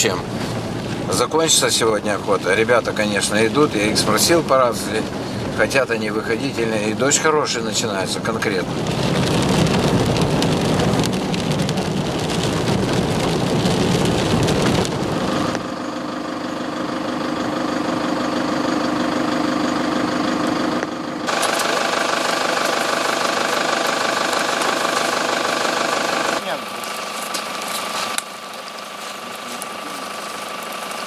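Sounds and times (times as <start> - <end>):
rain hitting windscreen: 0.0 - 15.8, 21.3 - 31.0
car driving on dirt road: 0.0 - 31.0
engine hum: 0.0 - 31.0.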